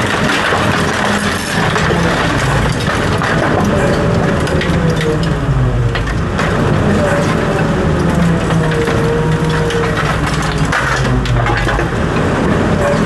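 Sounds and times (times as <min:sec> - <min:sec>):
material being crushed: 0:00.0 - 0:12.2
heavy equipment engine whining: 0:00.0 - 0:13.0.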